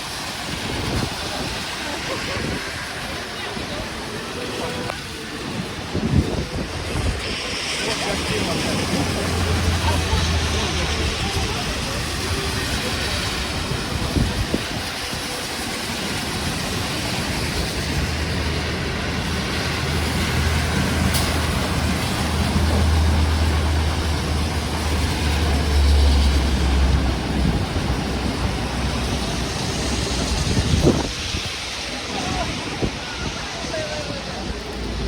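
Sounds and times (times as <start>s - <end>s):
low engine rumble of traffic: 0.0s - 35.0s.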